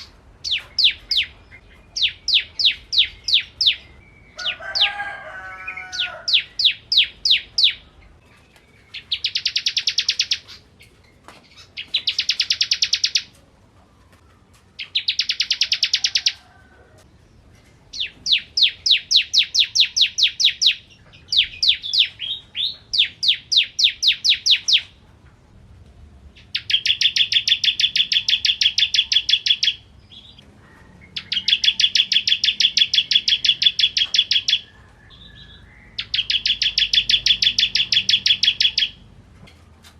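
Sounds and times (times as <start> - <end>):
bird singing buzzy trills: 0.0 - 5.0, 5.8 - 13.3, 14.8 - 16.4, 17.9 - 25.0, 26.4 - 39.1.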